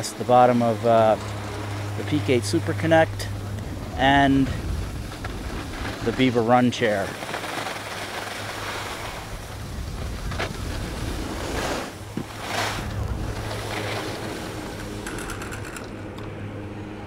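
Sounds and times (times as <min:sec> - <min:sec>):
skis sliding over snow: 0:00.0 - 0:03.1, 0:03.7 - 0:16.0
wind rushing over microphone: 0:01.2 - 0:16.4.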